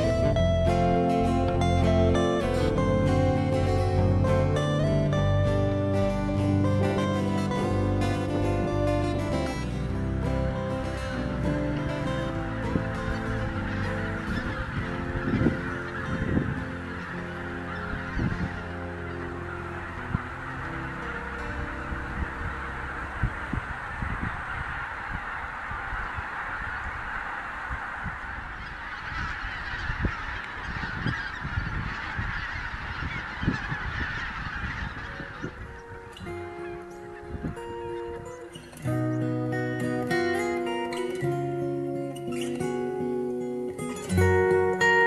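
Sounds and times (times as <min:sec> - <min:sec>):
geese honking in flight: 0:00.0 - 0:45.0.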